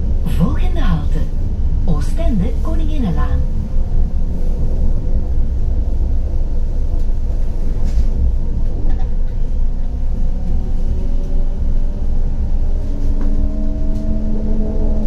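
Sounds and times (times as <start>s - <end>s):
low rumble of running gear: 0.0s - 15.0s
tram electric drive whining: 0.0s - 15.0s.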